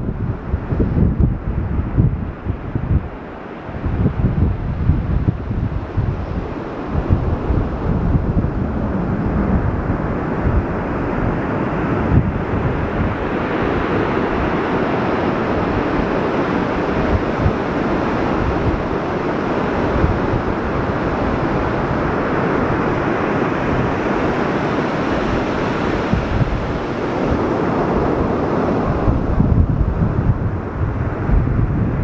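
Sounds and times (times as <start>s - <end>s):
wind buffeting microphone: 0.0s - 32.0s
ocean surf breaking: 0.1s - 32.0s.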